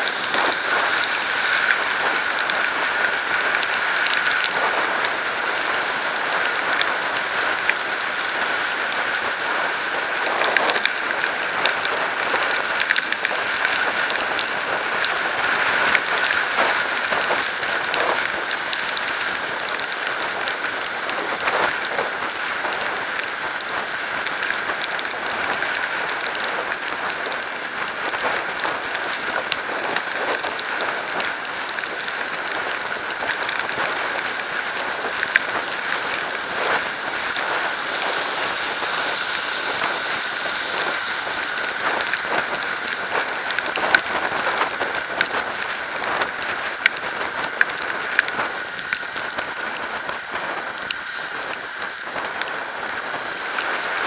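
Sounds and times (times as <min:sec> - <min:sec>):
rain drops hitting camera housing: 0:00.0 - 0:54.0.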